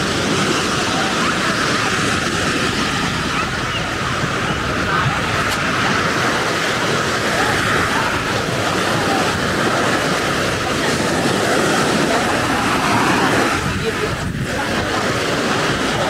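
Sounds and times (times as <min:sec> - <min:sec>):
surf waves breaking on beach: 0:00.0 - 0:16.0.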